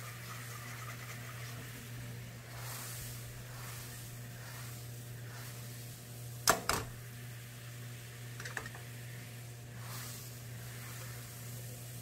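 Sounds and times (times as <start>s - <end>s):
glaze bubbling: 0.0s - 12.0s.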